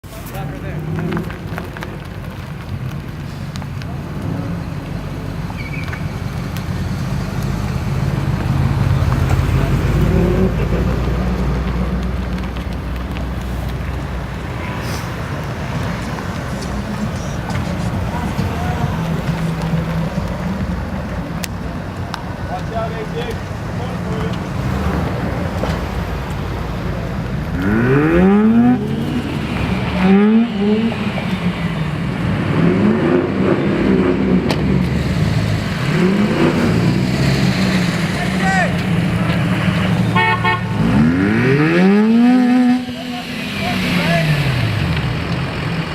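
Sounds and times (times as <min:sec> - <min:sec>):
car engine rumbling: 0:00.0 - 0:45.9.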